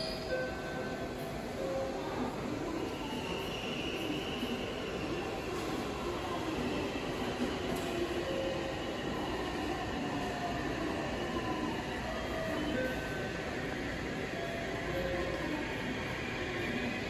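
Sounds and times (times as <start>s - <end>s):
train rumbling in station: 0.0s - 17.0s.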